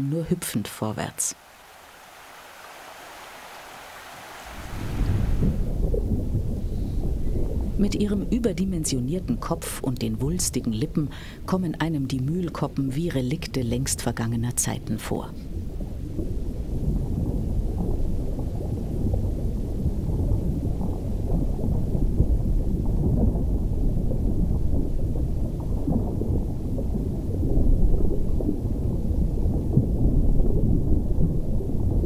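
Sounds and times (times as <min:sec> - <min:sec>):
underwater rumbling water: 0:01.4 - 0:32.0.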